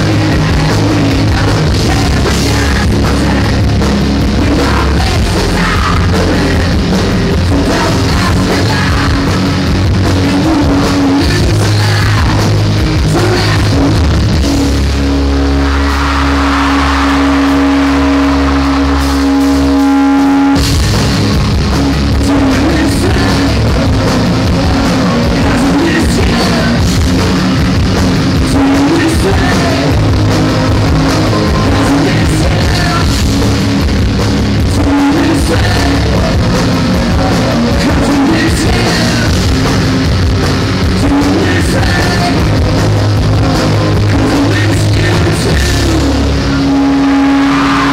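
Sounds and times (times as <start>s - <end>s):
sung vocals: 0.0s - 14.2s, 22.1s - 27.6s, 28.3s - 40.0s, 40.6s - 47.9s
drum kit: 0.0s - 47.9s
electric guitars: 0.0s - 47.9s.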